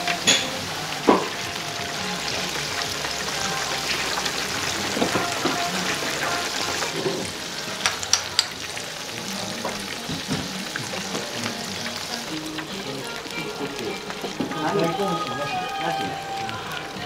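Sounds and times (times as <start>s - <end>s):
tempura frying in oil: 0.0s - 17.0s.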